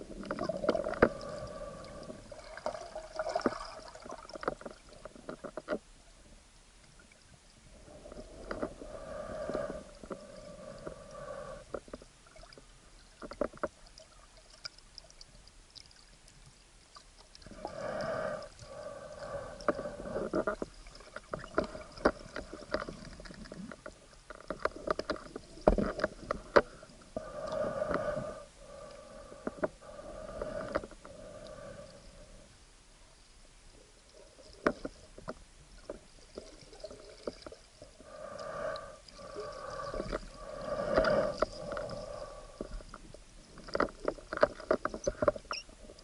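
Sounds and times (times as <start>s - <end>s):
muffled underwater water noise: 0.0s - 46.0s.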